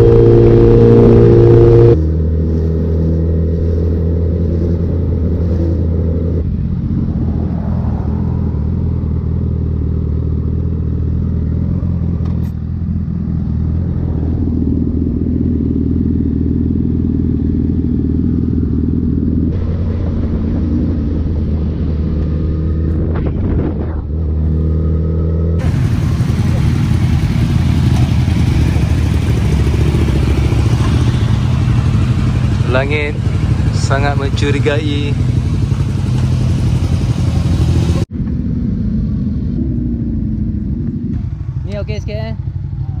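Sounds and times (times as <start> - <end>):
motorcycle engine cruising: 0.0 - 43.0
road and wind noise: 0.0 - 43.0.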